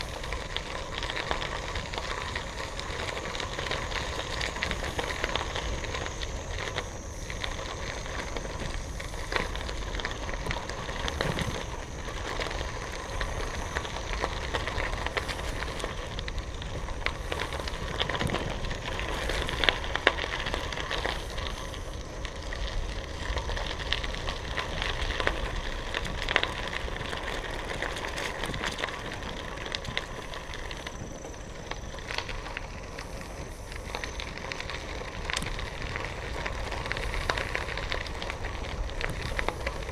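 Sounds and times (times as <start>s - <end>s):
bicycle tyres crunching on gravel: 0.0s - 39.9s.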